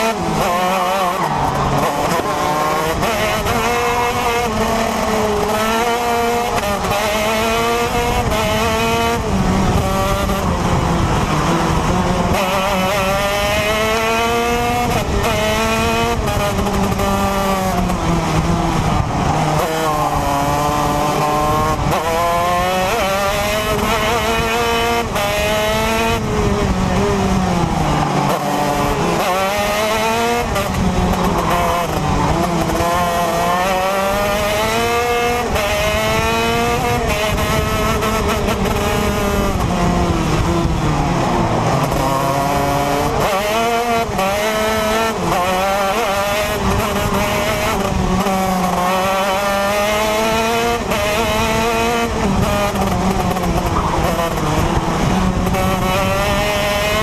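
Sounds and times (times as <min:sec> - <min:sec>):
kart engine shifting through gears: 0:00.0 - 0:57.0.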